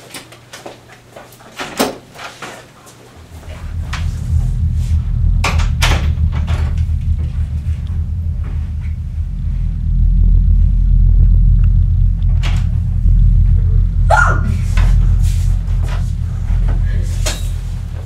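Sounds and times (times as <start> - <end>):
low droning rumble: 3.1 - 18.0.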